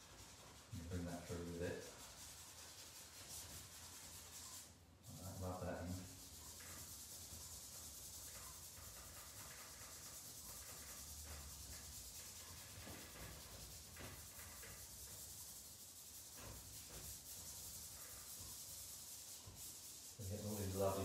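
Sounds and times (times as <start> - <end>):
pastel rubbing on paper: 0.0 - 21.0.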